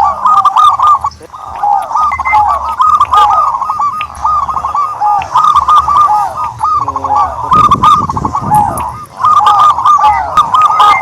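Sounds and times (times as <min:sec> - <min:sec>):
turtledoves calling: 0:00.0 - 0:11.0.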